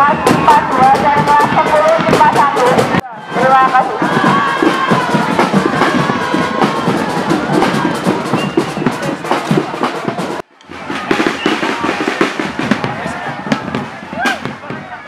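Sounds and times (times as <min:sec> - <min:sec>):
fast busy drumming: 0:00.0 - 0:15.0.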